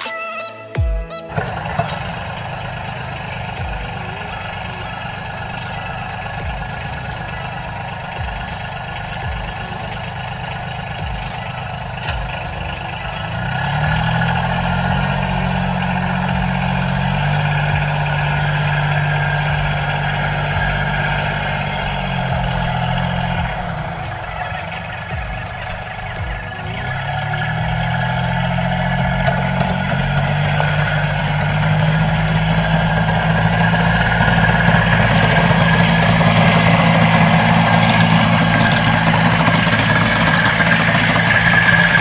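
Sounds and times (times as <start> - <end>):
low multi-tone hum: 1.3 - 42.0
small electric motor running: 1.4 - 42.0.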